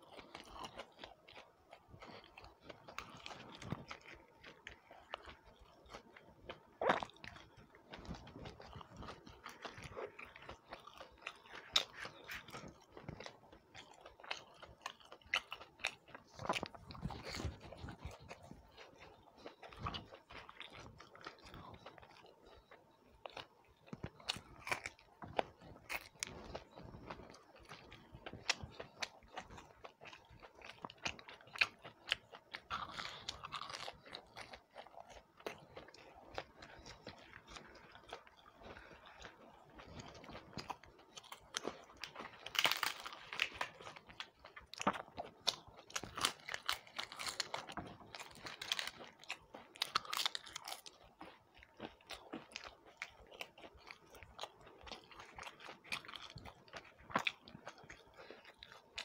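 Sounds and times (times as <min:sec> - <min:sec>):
chewing and crunching snacks: 0:00.0 - 0:59.0.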